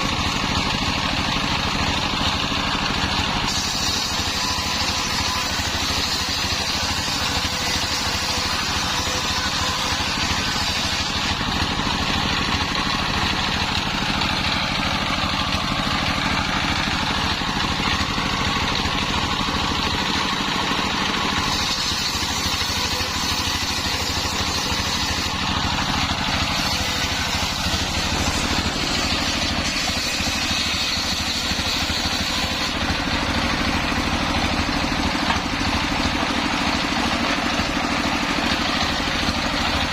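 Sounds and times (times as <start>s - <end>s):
engine drone: 0.0s - 39.9s
saw blade whine and hiss: 0.0s - 39.9s.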